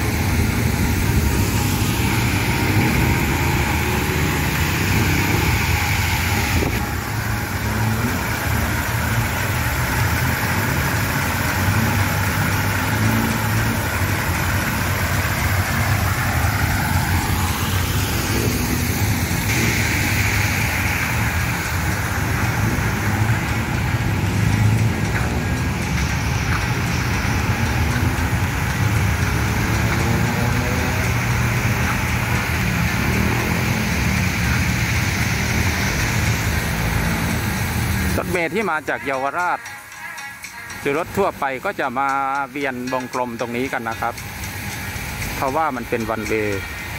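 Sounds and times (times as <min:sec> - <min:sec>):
road traffic engine rumble: 0:00.0 - 0:46.9
vehicle accelerating whine: 0:00.0 - 0:46.9.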